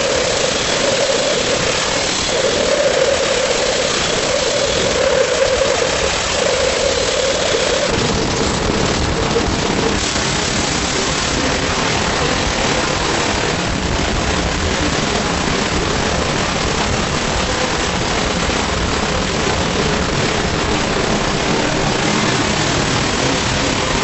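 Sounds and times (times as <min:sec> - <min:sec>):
dense hiss-like roar: 0:00.0 - 0:24.0.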